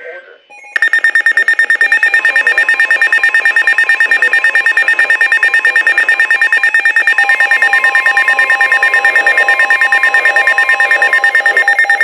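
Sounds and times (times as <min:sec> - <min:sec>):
rapid electronic beeping: 0:00.5 - 0:12.0.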